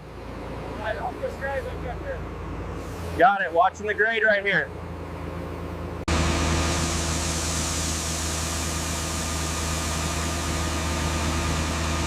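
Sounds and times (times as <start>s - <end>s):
heavy machinery diesel engine running: 0.0s - 12.0s.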